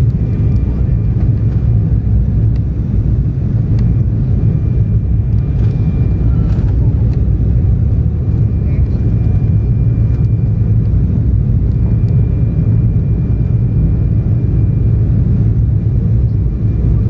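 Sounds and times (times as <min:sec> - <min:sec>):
faint thin whine: 0:00.0 - 0:17.0
jet engine cabin rumble: 0:00.0 - 0:17.0.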